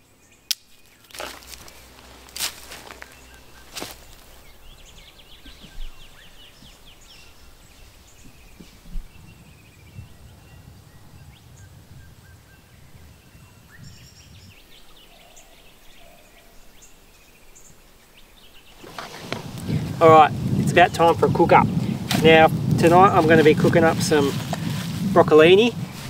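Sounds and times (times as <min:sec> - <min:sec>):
low outdoor rumble: 0:00.9 - 0:14.5, 0:18.7 - 0:26.0.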